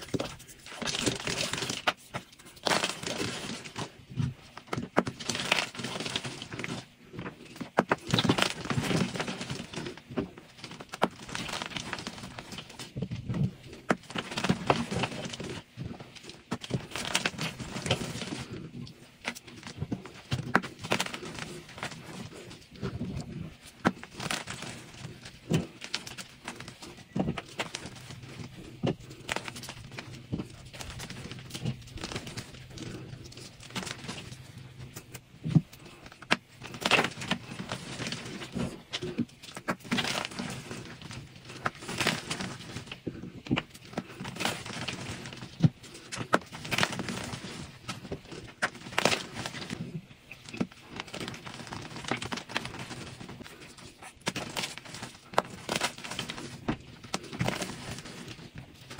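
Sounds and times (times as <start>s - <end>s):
chalk crunching and crumbling: 0.0s - 58.9s.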